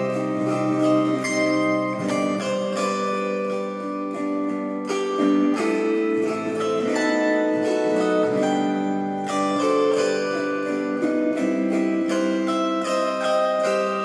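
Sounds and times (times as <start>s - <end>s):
autoharp melody: 0.0s - 14.0s.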